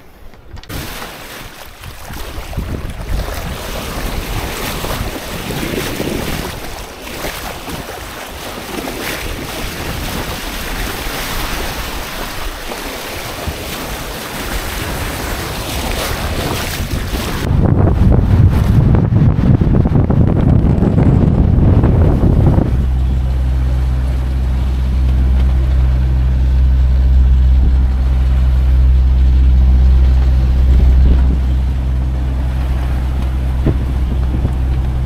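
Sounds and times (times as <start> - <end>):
wind and waves rushing: 0.0 - 35.0
wind buffeting microphone: 0.0 - 35.0.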